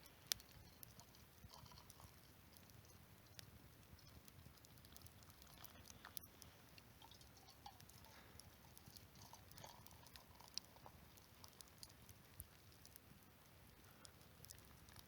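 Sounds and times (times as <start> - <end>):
faint crackles and clicks: 0.0 - 15.0.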